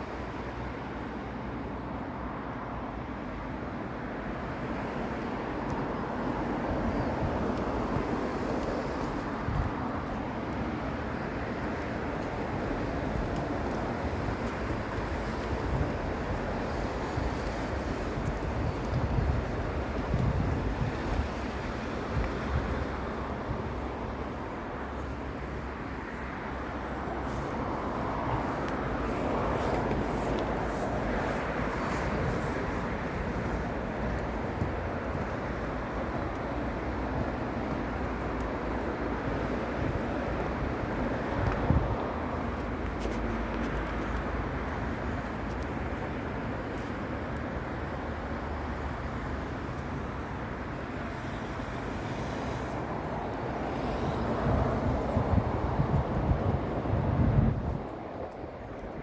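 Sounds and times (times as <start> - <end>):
wind buffeting microphone: 5.4 - 47.5, 48.6 - 59.0.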